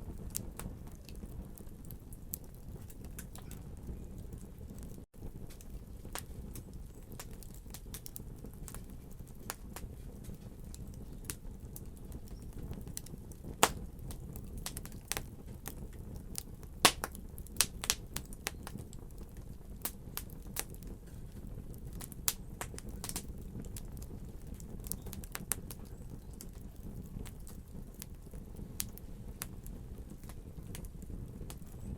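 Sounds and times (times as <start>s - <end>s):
fire crackling and popping: 0.0s - 31.9s
fire flames rumbling: 0.0s - 31.9s.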